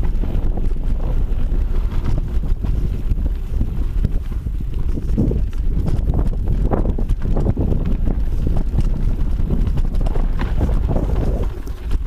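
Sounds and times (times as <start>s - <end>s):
bike rattling over bumps: 0.0s - 12.0s
bike tyres rumbling on dirt: 0.0s - 12.0s
wind buffeting microphone: 0.0s - 12.0s.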